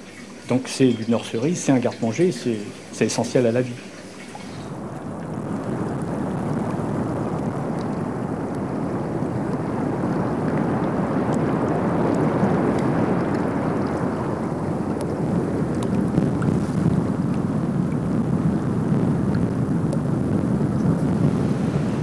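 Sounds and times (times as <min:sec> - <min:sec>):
tide water washing over mudflat: 0:00.0 - 0:22.0.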